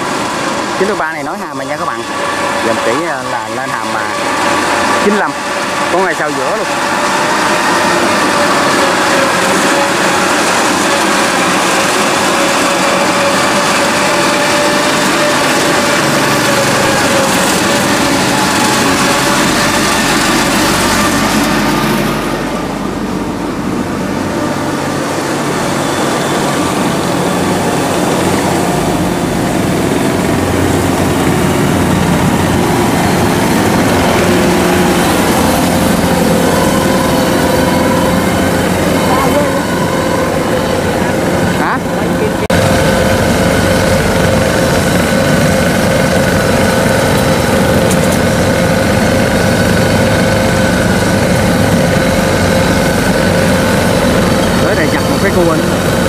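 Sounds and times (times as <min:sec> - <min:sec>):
combine harvester diesel engine: 0:00.0 - 0:56.0
tracked crawler carrier engine: 0:00.0 - 0:56.0.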